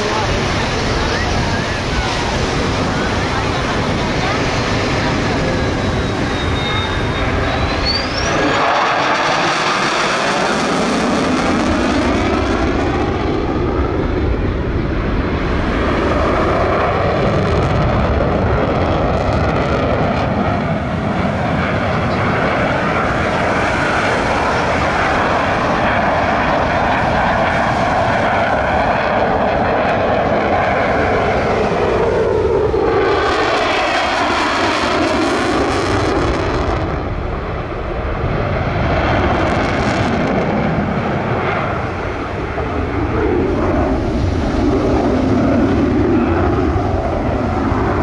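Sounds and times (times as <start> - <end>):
airplane engine in flight: 0.0 - 48.0.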